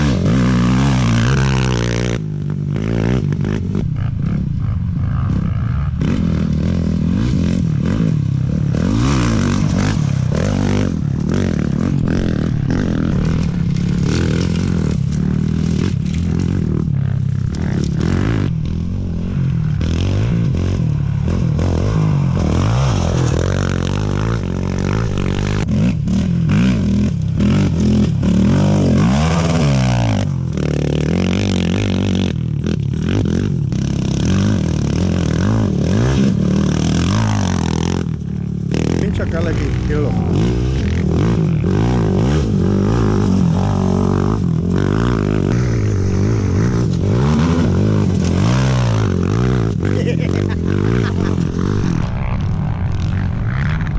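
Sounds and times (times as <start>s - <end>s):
motorcycle and quad engines revving: 0.0s - 53.9s.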